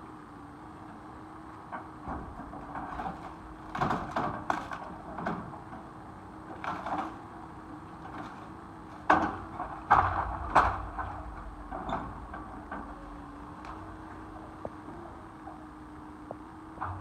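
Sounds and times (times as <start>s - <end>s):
excavator humming: 0.0s - 17.0s.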